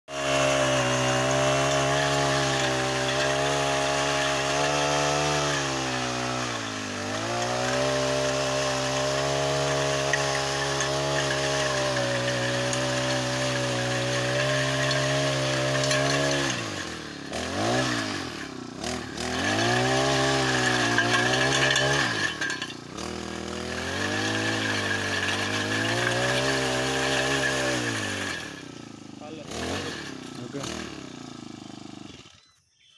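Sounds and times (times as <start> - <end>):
small engine running at high revs: 0.1 - 32.6
tiller churning dry soil: 0.1 - 32.6.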